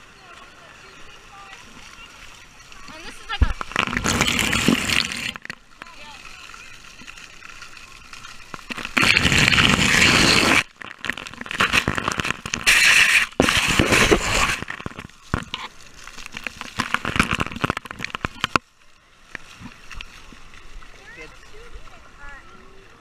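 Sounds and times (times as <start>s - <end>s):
crackling on camera microphone: 0.4s - 20.7s.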